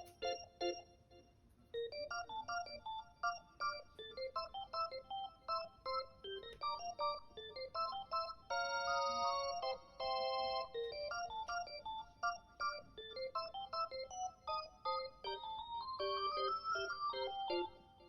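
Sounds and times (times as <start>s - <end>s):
light electronic melody: 0.0s - 18.0s.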